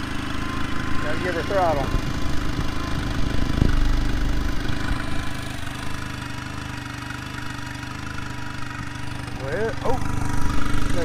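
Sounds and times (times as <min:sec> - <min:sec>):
outboard engine running: 0:00.0 - 0:11.0.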